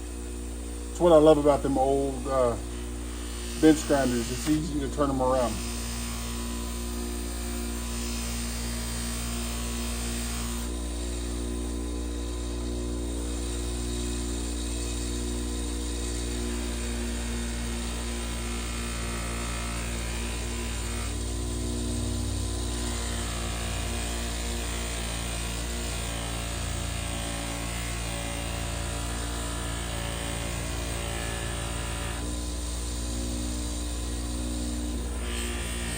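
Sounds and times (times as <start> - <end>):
bench grinder running: 0.0 - 35.9.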